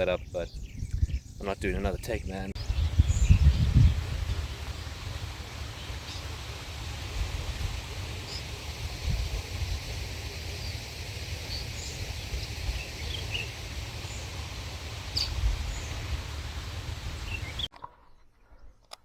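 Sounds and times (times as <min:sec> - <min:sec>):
wind rumbling on microphone: 0:00.0 - 0:17.7
birds chirping: 0:00.0 - 0:18.9.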